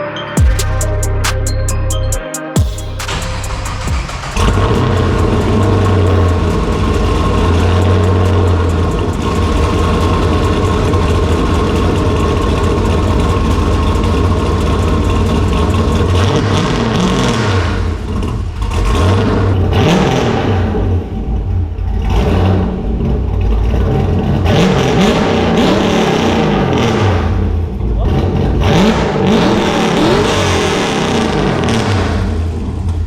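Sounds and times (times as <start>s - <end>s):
car engine idling and revving: 2.6s - 33.0s.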